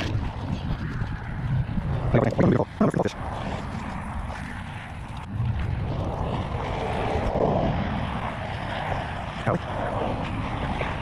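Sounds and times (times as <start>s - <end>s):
highway traffic noise: 0.0s - 11.0s
wind rumbling on microphone: 0.0s - 11.0s.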